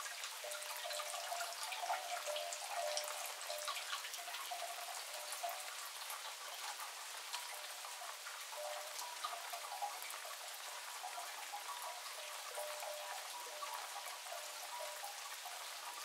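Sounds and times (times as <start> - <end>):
rain patter: 0.0 - 16.0.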